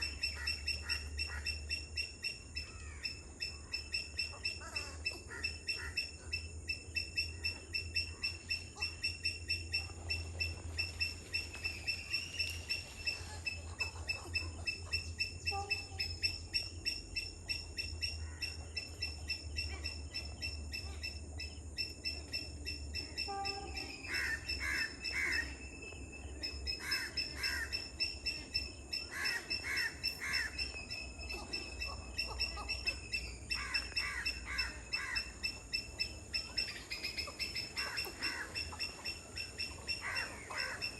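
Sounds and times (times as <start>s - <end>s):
wetland birds calling: 0.0s - 40.9s.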